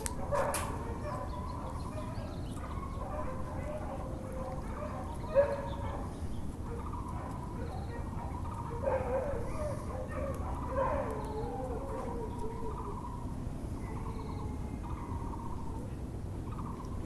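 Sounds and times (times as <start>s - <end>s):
steady background noise: 0.0s - 17.0s
dogs and fowl calling: 0.1s - 16.8s.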